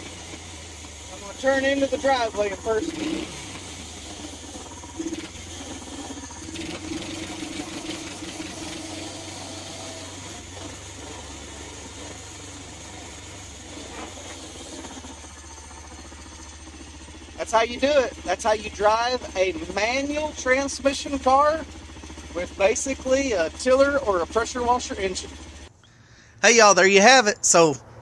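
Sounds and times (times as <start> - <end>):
engine knock: 0.0 - 25.7
small engine humming: 0.0 - 26.2.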